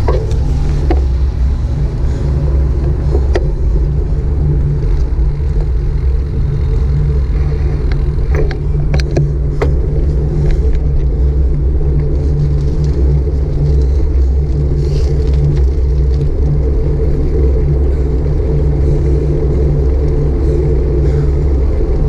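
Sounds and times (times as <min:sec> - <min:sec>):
bicycle clicks and rattles: 0:00.0 - 0:22.0
road noise: 0:00.0 - 0:22.0
wind buffeting microphone: 0:00.0 - 0:22.0.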